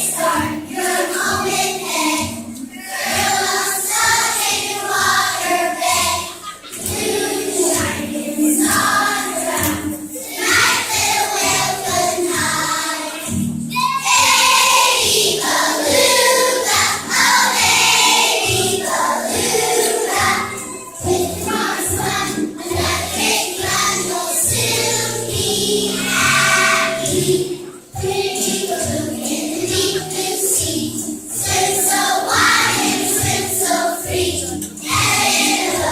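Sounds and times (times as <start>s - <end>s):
choir singing with accompaniment: 0.0s - 35.9s.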